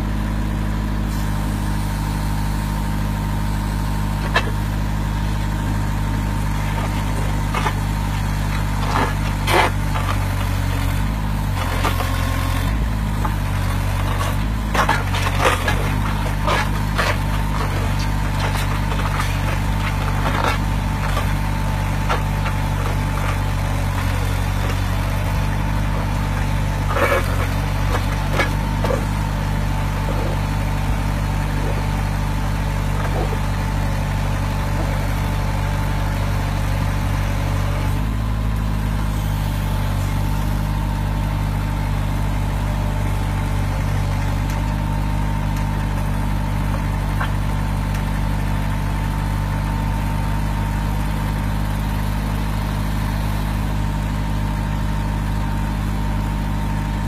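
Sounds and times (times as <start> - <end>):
post driver engine running: 0.0 - 57.0.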